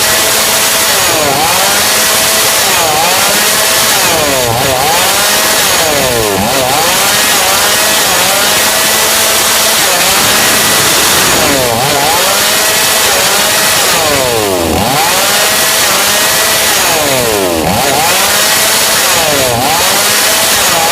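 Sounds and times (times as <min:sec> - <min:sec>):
chainsaw running at high speed: 0:00.0 - 0:20.9.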